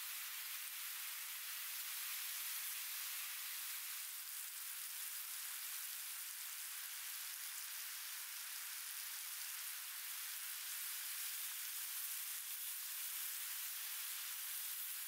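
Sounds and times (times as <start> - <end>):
bacon and egg sizzling: 0.0 - 15.0.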